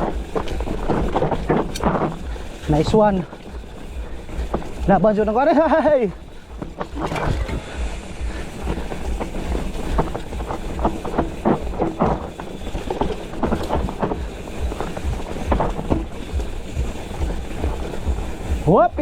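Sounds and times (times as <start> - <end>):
bike rattling and knocking: 0.0 - 19.0
wind buffeting microphone: 0.0 - 19.0.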